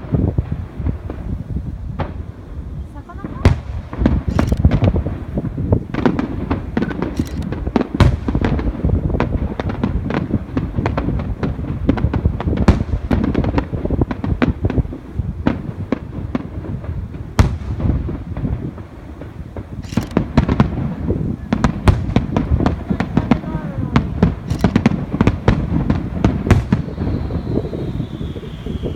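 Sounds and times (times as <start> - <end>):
fireworks bursting and booming: 0.0 - 28.9
fireworks crackling: 0.0 - 28.9.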